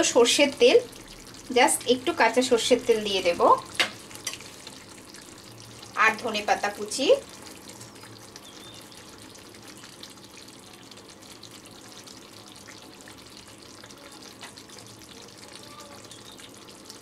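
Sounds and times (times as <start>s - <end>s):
gravy simmering with sizzle and pops: 0.0s - 17.0s.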